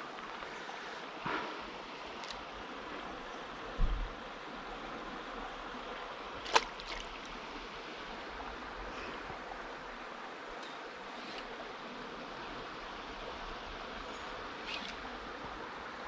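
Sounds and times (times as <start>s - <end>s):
river water running: 0.0s - 16.0s.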